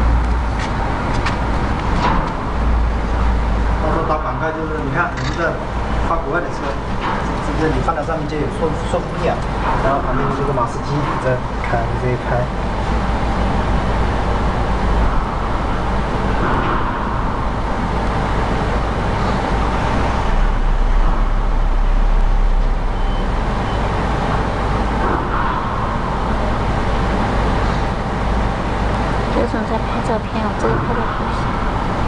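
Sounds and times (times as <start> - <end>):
diesel tractor engine rumbling: 0.0 - 32.0.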